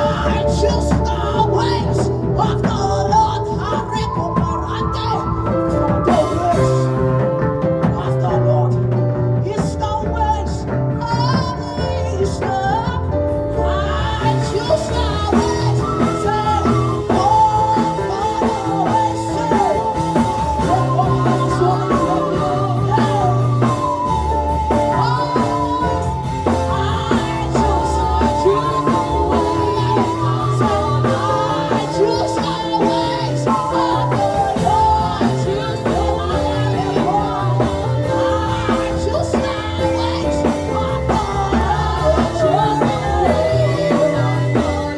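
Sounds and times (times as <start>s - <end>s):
band with bass and drums: 0.0s - 44.9s
person singing worship song: 0.0s - 44.9s.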